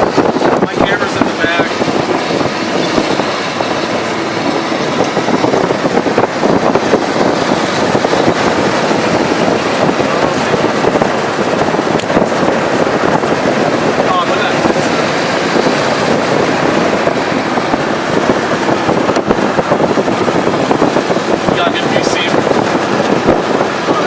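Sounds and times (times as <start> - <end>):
car engine running: 0.0 - 24.0
road and wind noise: 0.0 - 24.0.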